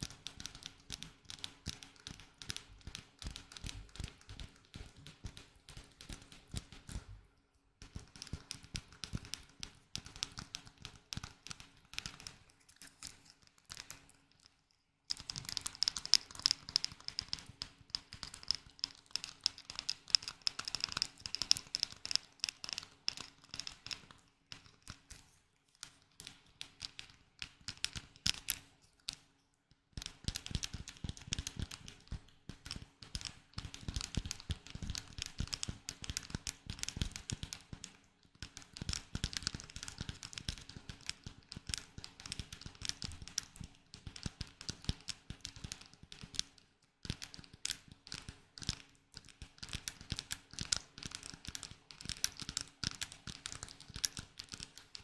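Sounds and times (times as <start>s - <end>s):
tapping and clicking on small object: 0.0s - 7.1s, 7.8s - 25.2s, 25.8s - 29.3s, 29.9s - 55.0s.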